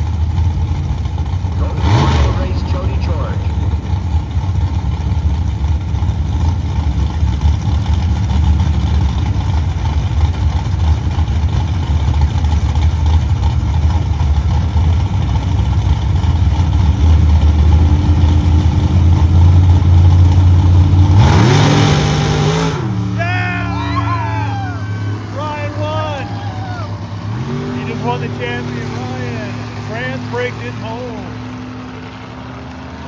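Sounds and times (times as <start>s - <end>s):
race car engines idling and revving: 0.0s - 33.0s.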